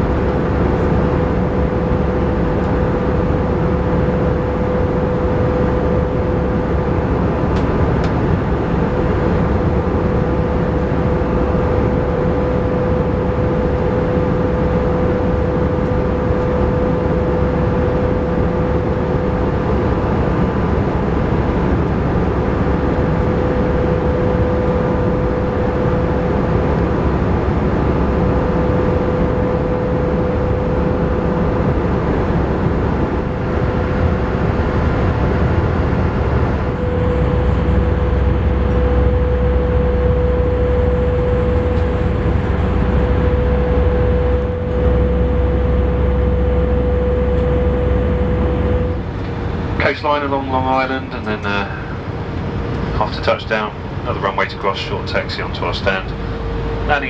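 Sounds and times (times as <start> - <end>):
airliner cabin noise: 0.0 - 57.0.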